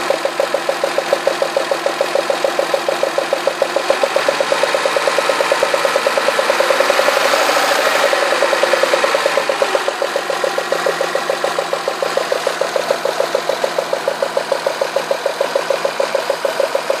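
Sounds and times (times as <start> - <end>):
engine running with rapid clatter: 0.0 - 17.0.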